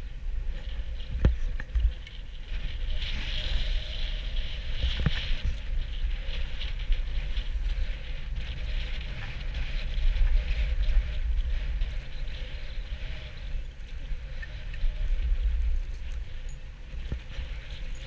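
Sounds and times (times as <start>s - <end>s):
snowboard scraping over snow: 0.0s - 18.0s
wind rumbling on microphone: 0.0s - 18.0s.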